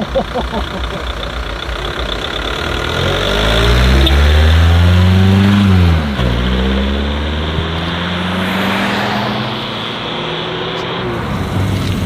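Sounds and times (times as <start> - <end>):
car engine revving: 0.2 - 12.0.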